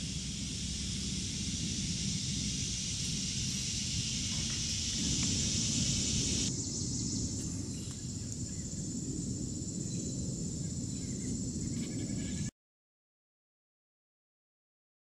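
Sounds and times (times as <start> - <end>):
low rumble: 0.0 - 12.4
high insect drone: 0.0 - 12.5.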